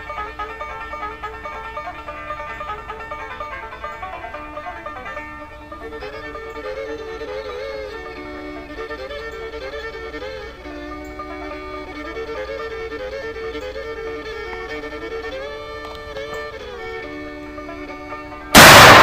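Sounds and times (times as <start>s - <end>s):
fiddle playing a flowing melody: 0.0s - 19.0s
light accompaniment: 0.0s - 19.0s.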